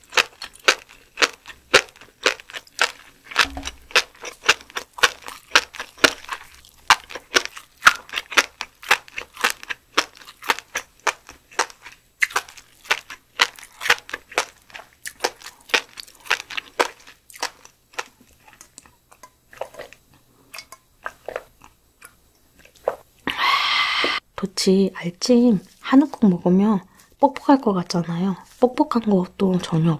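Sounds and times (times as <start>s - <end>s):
chewing with crisp crackles: 0.0s - 23.3s, 25.5s - 29.9s.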